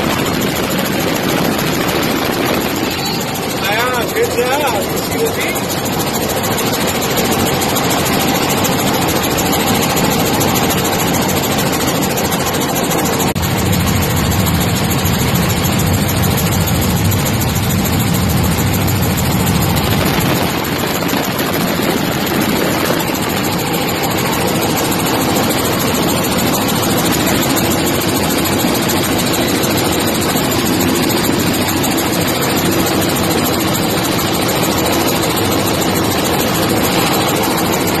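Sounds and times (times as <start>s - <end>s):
helicopter engine and rotor drone: 0.0s - 38.0s.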